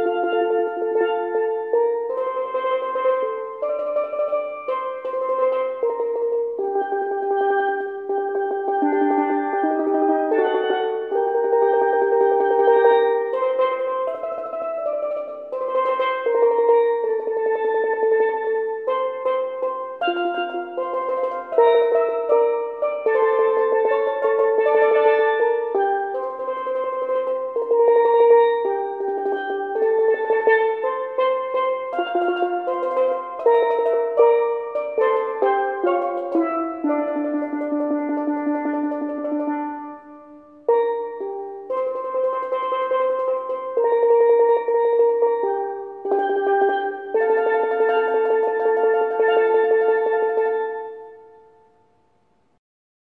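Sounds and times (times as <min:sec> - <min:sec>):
steelpan melody: 0:00.0 - 0:51.9.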